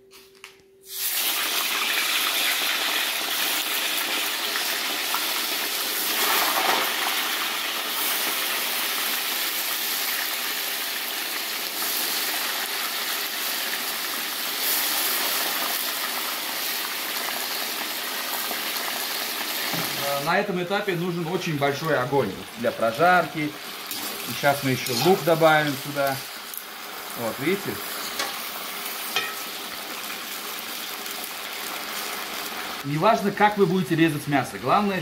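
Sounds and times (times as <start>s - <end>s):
meat sizzling in hot oil: 0.9s - 35.0s.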